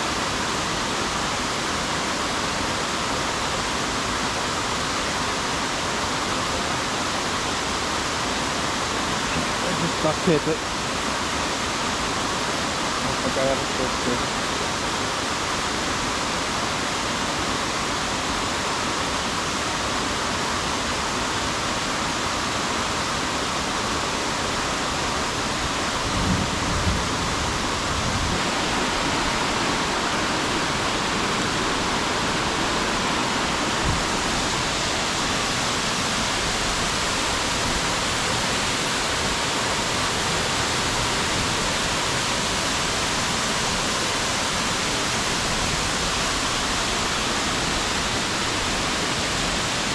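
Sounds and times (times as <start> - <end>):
rushing stream: 0.0 - 49.9.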